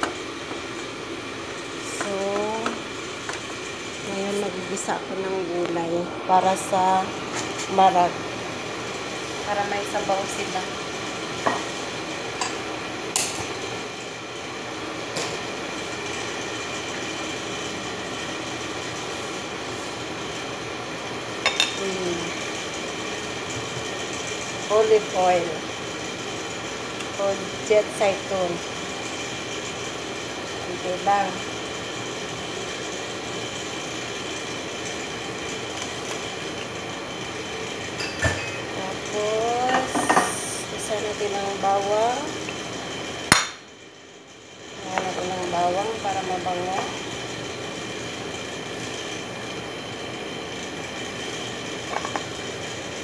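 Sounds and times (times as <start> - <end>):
kitchen machinery whirring hum: 0.0 - 53.0.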